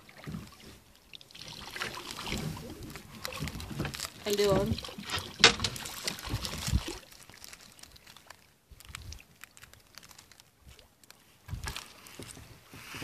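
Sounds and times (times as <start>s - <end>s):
water dripping off oar: 0.0s - 12.4s.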